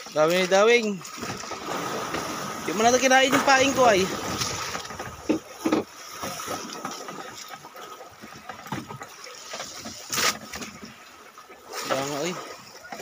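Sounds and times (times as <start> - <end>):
boat at sea noise: 0.0 - 13.0.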